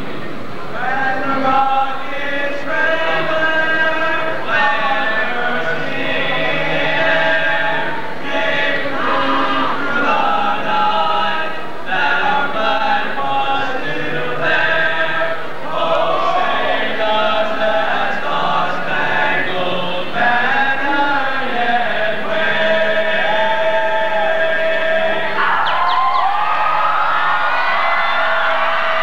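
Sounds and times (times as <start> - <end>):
group singing a cappella: 0.7 - 25.4.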